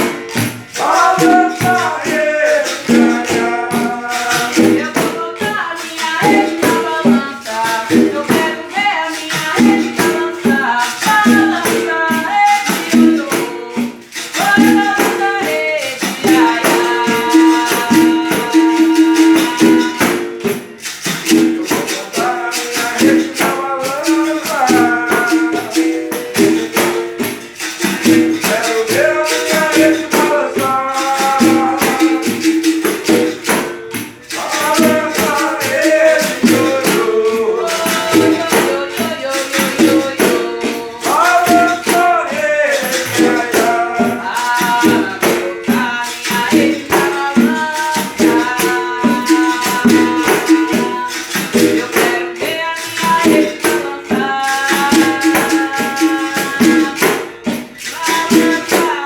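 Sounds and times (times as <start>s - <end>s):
person singing: 0.0s - 59.0s
shaken rattle: 0.0s - 59.0s
tambourine: 0.0s - 59.0s.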